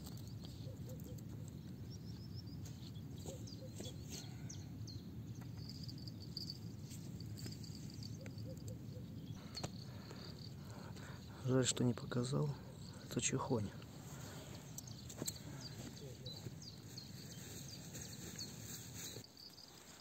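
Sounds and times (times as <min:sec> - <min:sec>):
bird chirps and trills: 0:00.0 - 0:10.5, 0:11.1 - 0:19.8
insect calls: 0:00.0 - 0:20.0.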